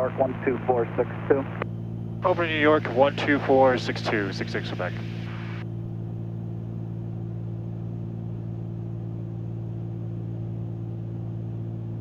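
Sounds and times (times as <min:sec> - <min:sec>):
propeller plane engines droning: 0:00.0 - 0:11.5.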